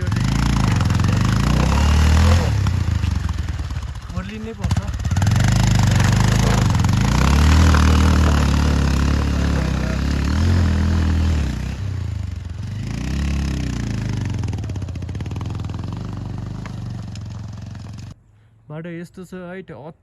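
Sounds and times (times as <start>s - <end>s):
motorcycle engine revving: 0.0s - 18.2s.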